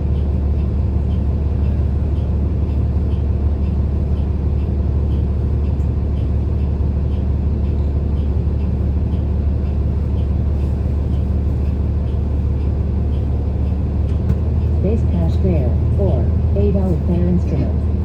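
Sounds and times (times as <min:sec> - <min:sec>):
bus engine and road drone: 0:00.0 - 0:18.0
faint regular ticking: 0:00.1 - 0:17.7.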